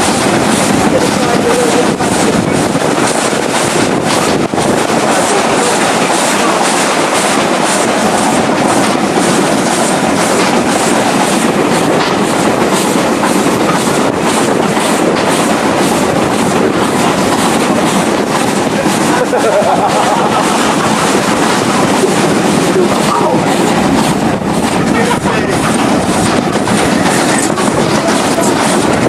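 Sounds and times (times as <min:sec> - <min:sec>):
steam train running: 0:00.0 - 0:29.0.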